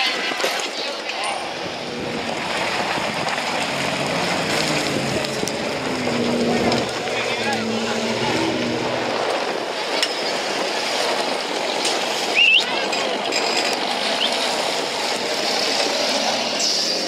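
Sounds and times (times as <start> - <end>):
off-road vehicle tyres on dirt: 0.0 - 17.0.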